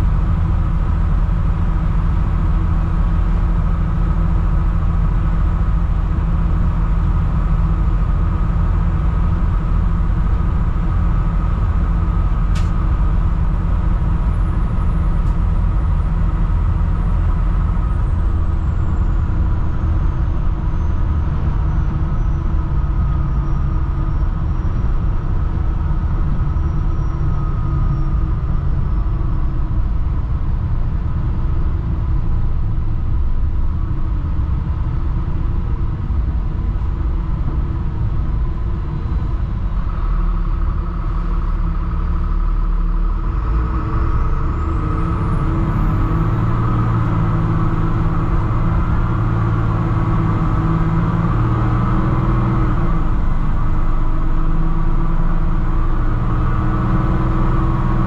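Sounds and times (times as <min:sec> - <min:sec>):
diesel bus engine droning: 0:00.0 - 0:58.0.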